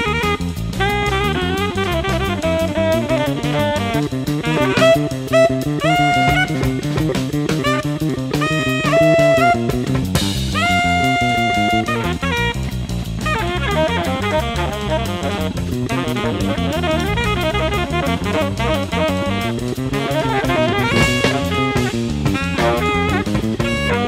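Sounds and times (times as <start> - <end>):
jazz fusion band playing: 0.0 - 24.0
saxophone runs: 0.0 - 24.0.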